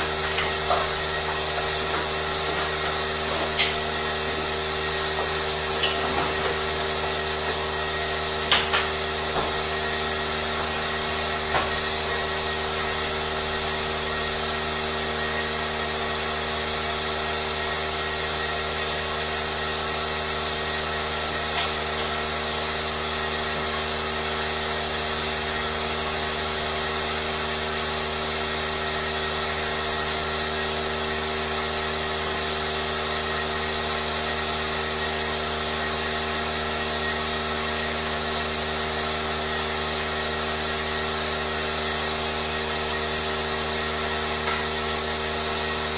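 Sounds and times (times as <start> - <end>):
machine motor humming: 0.0 - 45.9.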